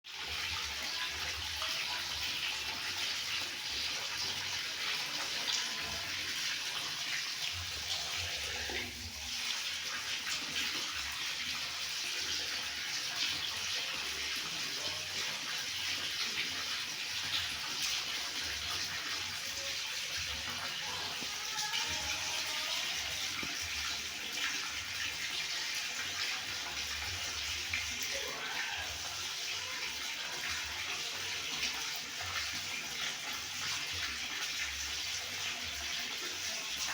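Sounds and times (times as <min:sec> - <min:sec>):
water running from a tap: 0:00.1 - 0:36.9.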